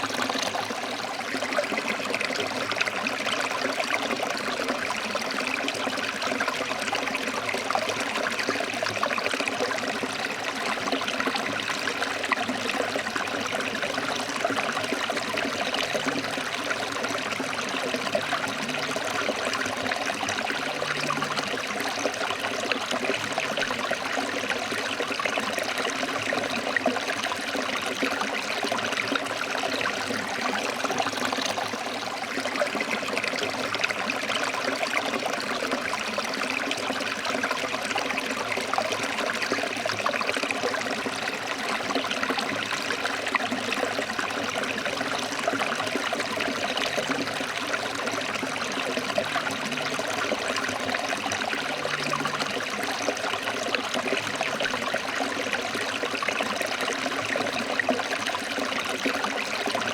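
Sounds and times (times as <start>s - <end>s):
water flowing over rocks: 0.0s - 59.9s.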